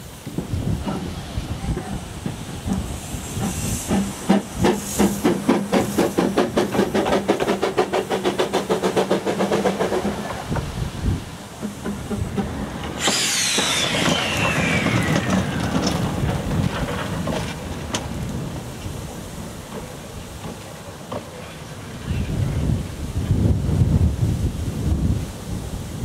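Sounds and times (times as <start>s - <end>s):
steam hissing: 0.0s - 26.0s
steam locomotive exhaust beats: 0.0s - 26.0s.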